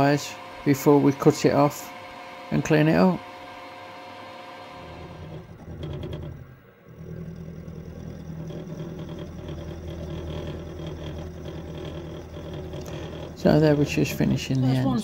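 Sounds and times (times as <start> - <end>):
end mill cutting steel: 0.0 - 15.0
milling machine motor hum: 0.0 - 15.0.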